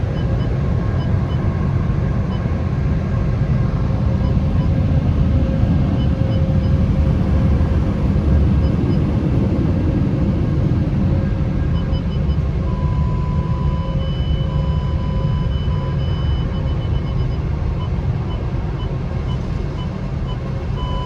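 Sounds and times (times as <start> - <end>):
faint high whining tones: 0.0 - 18.0
car wash machinery rumble: 0.0 - 21.0.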